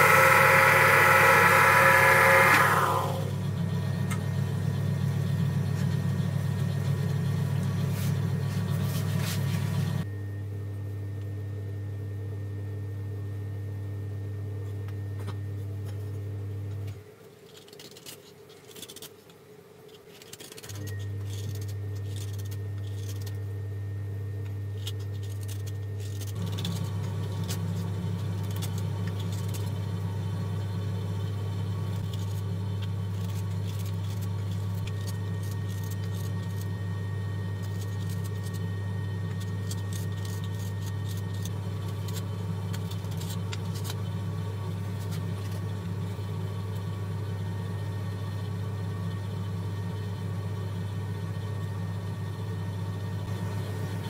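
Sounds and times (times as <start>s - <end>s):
low machine hum: 0.0s - 54.0s.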